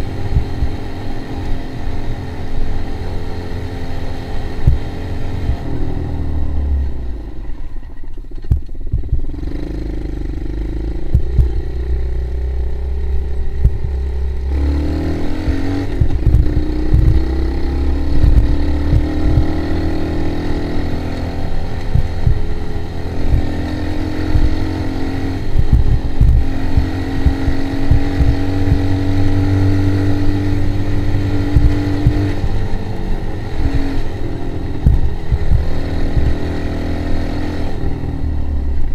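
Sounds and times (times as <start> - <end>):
low rumble: 0.0 - 0.8, 4.5 - 9.4, 10.1 - 37.0
atv engine running: 0.0 - 7.5, 8.2 - 38.9.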